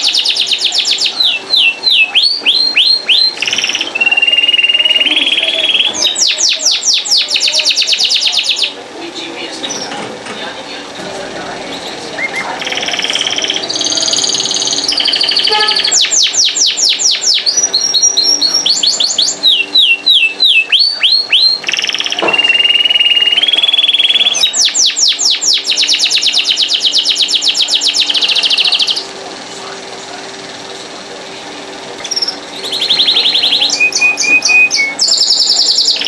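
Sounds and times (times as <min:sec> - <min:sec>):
canary singing: 0:00.0 - 0:10.0, 0:10.8 - 0:36.0.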